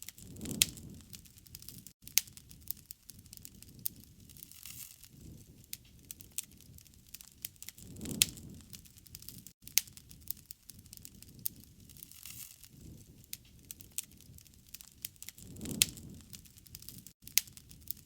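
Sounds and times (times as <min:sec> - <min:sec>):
sharp pops and snaps: 0:00.0 - 0:18.0
wood fire crackling: 0:00.0 - 0:18.0.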